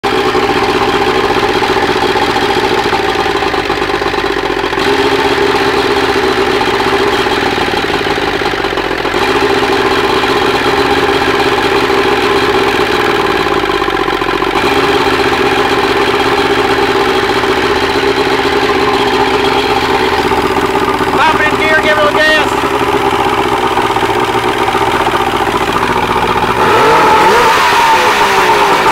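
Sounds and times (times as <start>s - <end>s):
outboard motor idling: 0.0s - 28.9s.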